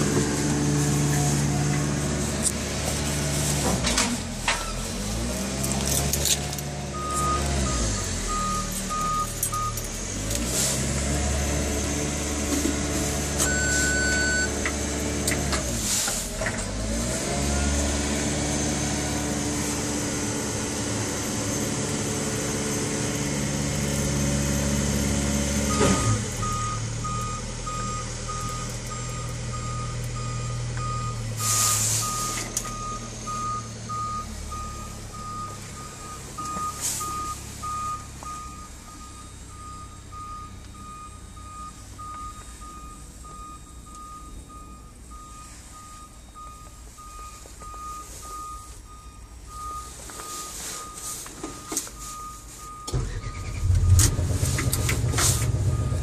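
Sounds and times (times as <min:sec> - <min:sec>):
excavator diesel engine revving: 0:00.0 - 0:42.2, 0:52.9 - 0:56.0.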